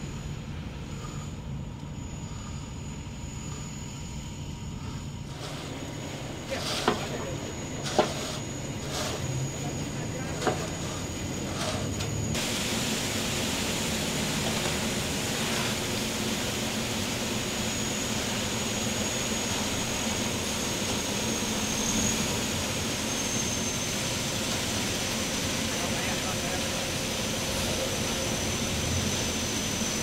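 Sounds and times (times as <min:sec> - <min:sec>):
faint high whine: 0:00.0 - 0:30.0
concrete mixer engine and drum: 0:04.8 - 0:30.0.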